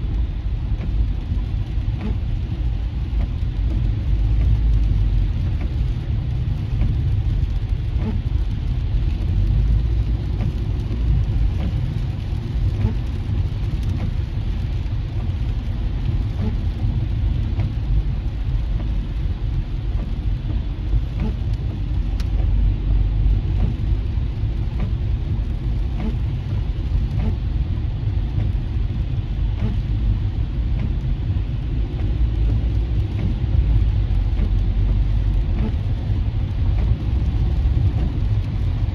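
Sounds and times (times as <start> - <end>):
rain on a car: 0.0 - 38.9
tyres rumbling on wet road: 0.0 - 38.9.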